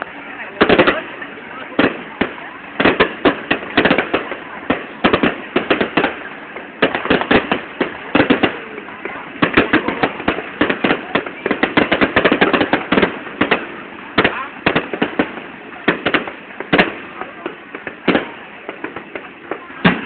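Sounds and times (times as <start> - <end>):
fireworks bangs and cracks: 0.0 - 20.0.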